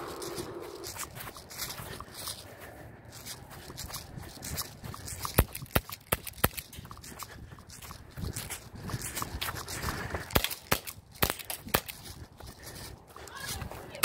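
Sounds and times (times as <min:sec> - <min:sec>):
footsteps in dry grass: 0:00.0 - 0:14.0.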